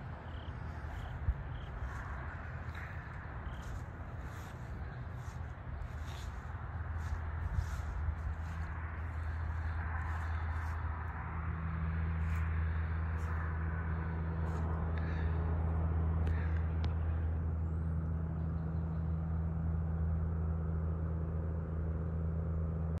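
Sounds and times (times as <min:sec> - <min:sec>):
low mechanical drone: 0:00.0 - 0:23.0
outdoor ambience: 0:00.0 - 0:23.0.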